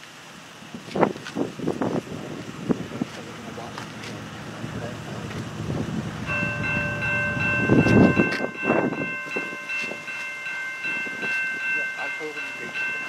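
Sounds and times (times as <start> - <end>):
low rumble of train: 0.0 - 13.0.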